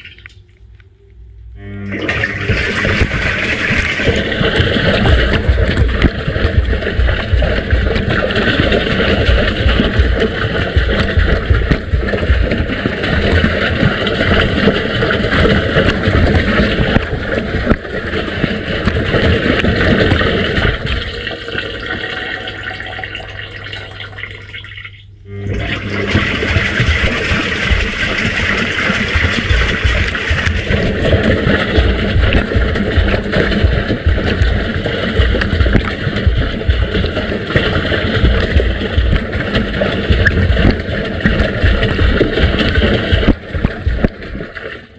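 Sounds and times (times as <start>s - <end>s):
water sloshing and splashing: 0.0s - 1.2s, 1.8s - 44.9s
washing machine drum turning: 1.6s - 24.0s, 25.2s - 44.9s.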